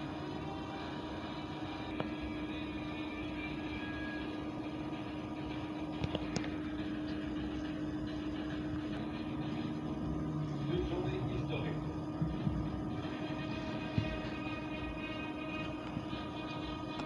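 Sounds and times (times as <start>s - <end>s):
steady tonal hum: 0.0s - 17.0s.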